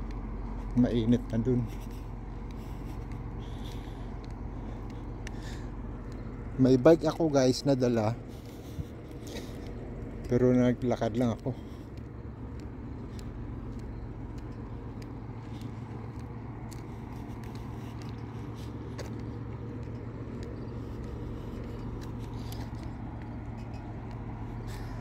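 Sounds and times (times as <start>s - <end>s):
distant traffic hum: 0.0s - 25.0s.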